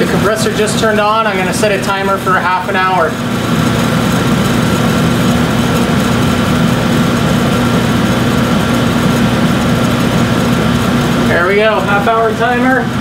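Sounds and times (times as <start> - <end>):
air conditioner fan rushing: 0.0 - 13.0
compressor low hum: 0.0 - 13.0.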